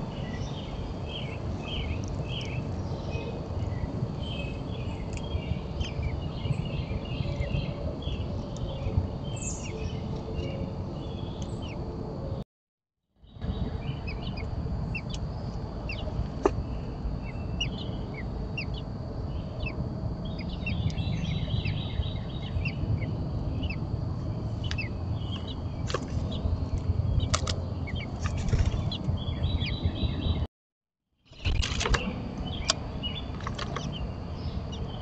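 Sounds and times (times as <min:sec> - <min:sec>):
small birds chirping: 0:00.0 - 0:11.9, 0:13.2 - 0:30.5, 0:31.3 - 0:35.0
steady low rumble: 0:00.0 - 0:12.4, 0:13.2 - 0:30.5.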